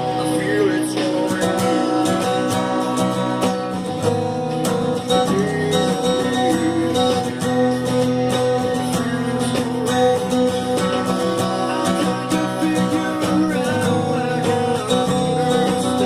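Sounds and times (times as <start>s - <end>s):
acoustic guitar playing chords: 0.0s - 16.0s.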